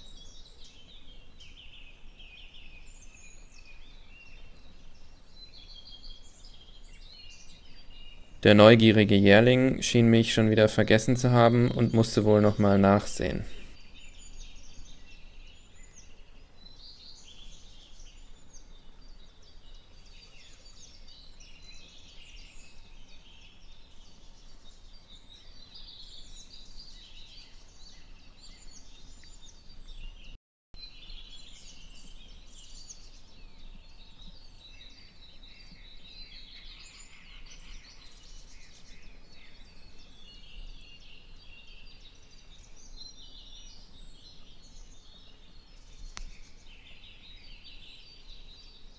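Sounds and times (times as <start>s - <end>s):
songbirds chirping and whistling: 0.0s - 48.9s.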